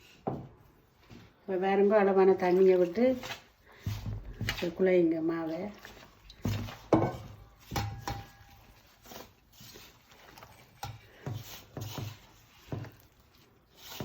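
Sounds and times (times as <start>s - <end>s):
hands kneading dough: 0.0s - 14.0s.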